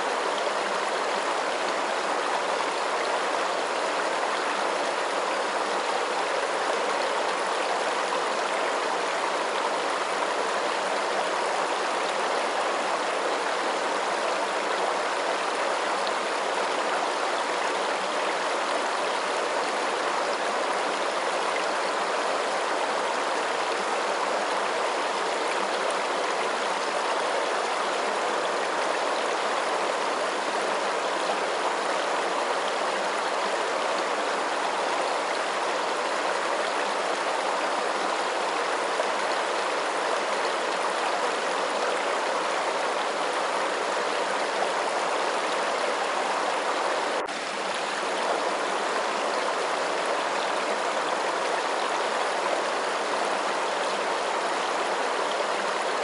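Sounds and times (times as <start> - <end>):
rushing stream: 0.0 - 56.0.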